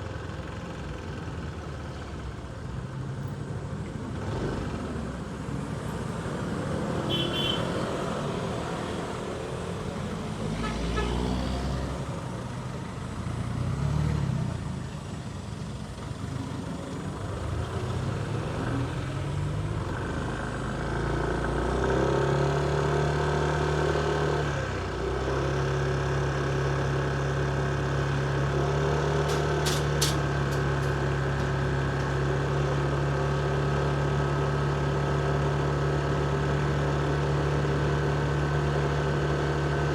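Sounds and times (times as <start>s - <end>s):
motorcycle engine revving and idling: 3.9s - 39.9s.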